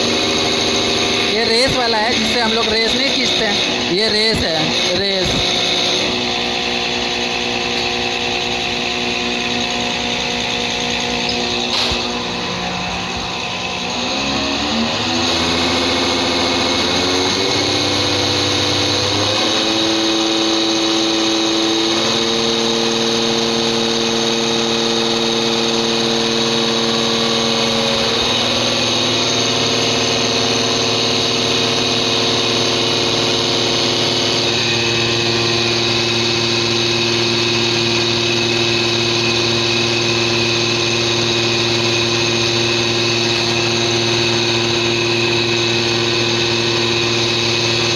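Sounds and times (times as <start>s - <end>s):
pump test bench hum and whine: 0.0s - 47.9s.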